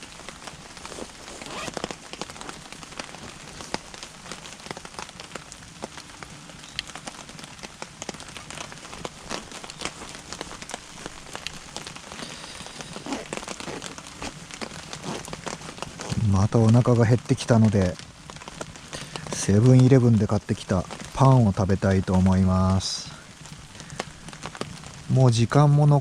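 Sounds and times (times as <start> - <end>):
flame hissing: 0.0 - 21.5, 22.1 - 25.2
firewood crackling and popping: 0.0 - 26.0.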